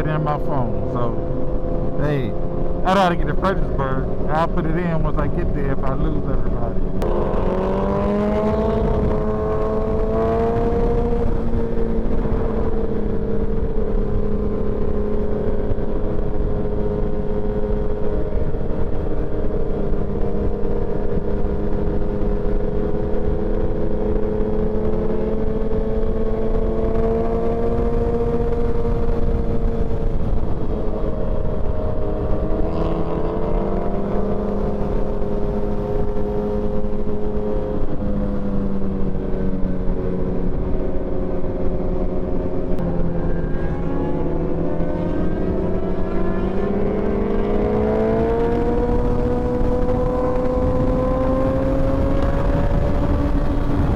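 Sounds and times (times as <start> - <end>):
motorcycle engine cruising: 0.0 - 53.9
wind rumble: 0.6 - 53.9.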